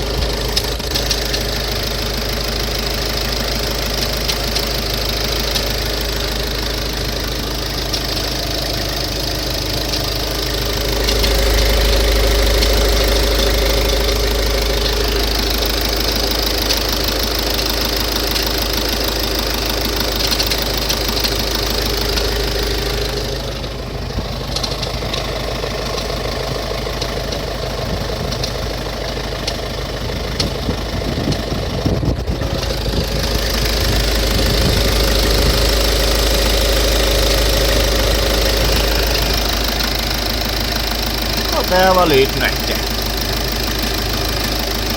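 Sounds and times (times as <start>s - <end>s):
car engine idling with knocking: 0.0s - 44.9s.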